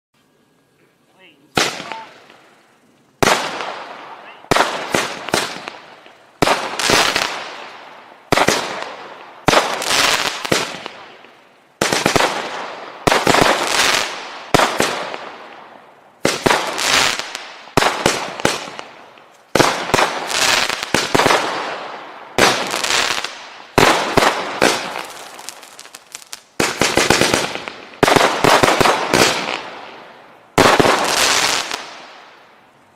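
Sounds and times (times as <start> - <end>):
firework bangs and crackles: 1.5 - 2.6, 3.2 - 32.7.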